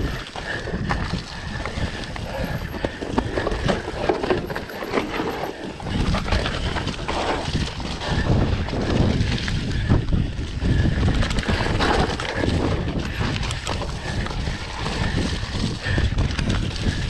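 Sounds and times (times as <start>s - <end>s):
bike knocks and rattles: 0.0s - 9.9s, 10.7s - 17.0s
bike engine rumble: 0.0s - 17.0s
wind buffeting microphone: 0.0s - 17.0s.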